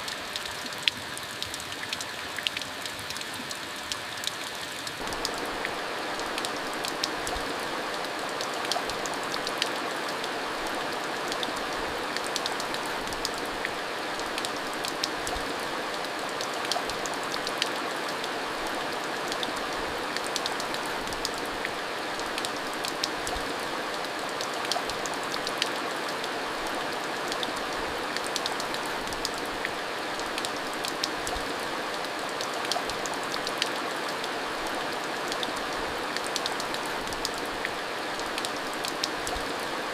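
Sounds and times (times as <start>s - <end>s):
heavy rain falling: 4.9s - 39.9s.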